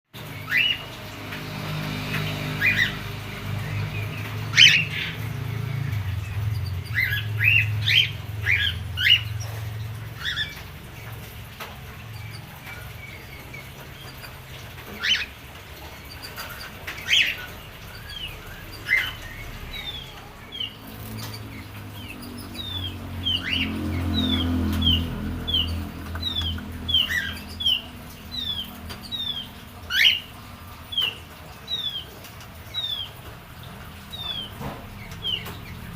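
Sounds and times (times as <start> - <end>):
songbird chirping: 0.2 - 35.9.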